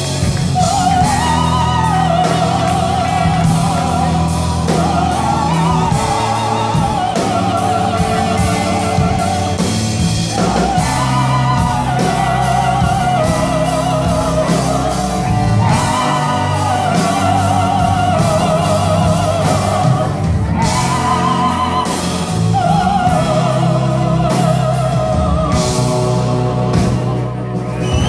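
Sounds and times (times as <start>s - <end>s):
blues band playing: 0.0s - 28.0s
voices singing: 0.0s - 28.0s.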